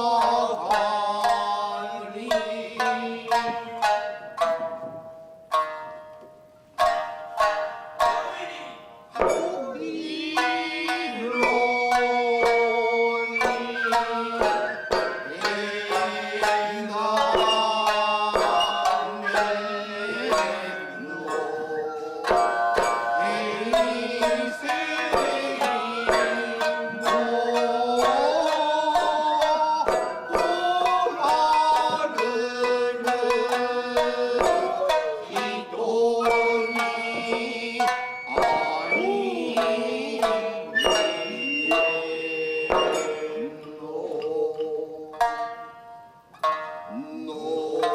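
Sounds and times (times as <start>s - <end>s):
plucked shamisen strokes: 0.0s - 47.9s
person chanting held notes: 8.0s - 45.6s, 46.8s - 47.9s.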